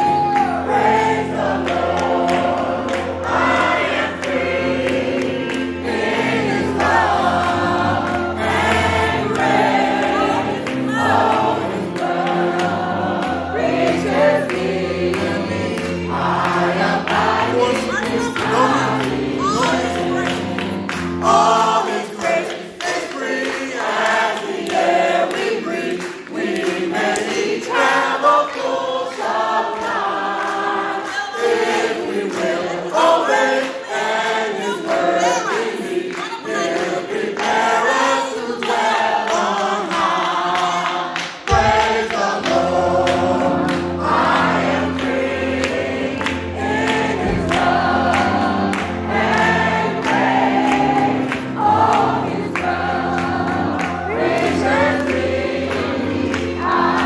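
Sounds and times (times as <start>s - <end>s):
group singing gospel song: 0.0s - 57.0s.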